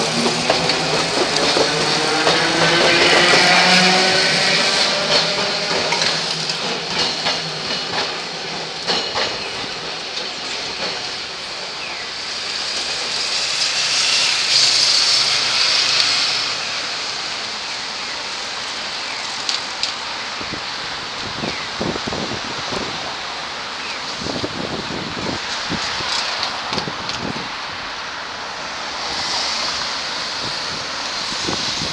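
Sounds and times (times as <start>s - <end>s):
tram wheels clicking over rail joints: 0.0s - 27.6s
rushing noise: 0.0s - 31.9s.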